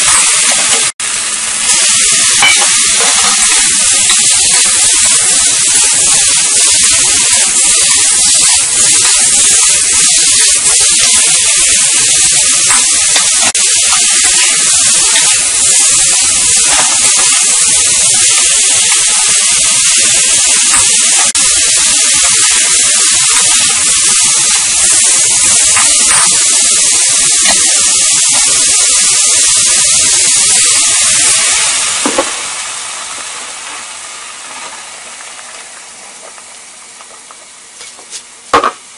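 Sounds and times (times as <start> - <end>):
meat sizzling in a wok: 0.0 - 38.9.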